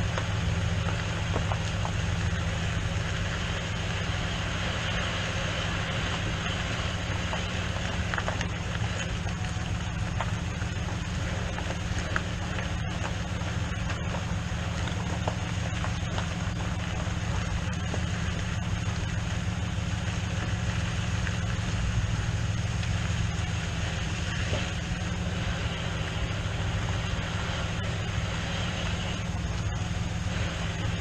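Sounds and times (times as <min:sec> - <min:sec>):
engine humming: 0:00.0 - 0:31.0
ride noise: 0:00.0 - 0:31.0.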